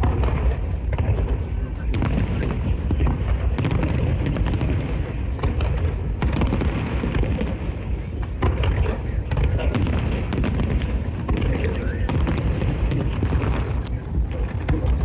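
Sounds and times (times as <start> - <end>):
fireworks booming: 0.0 - 15.0
fireworks cracks and crackles: 0.0 - 15.0.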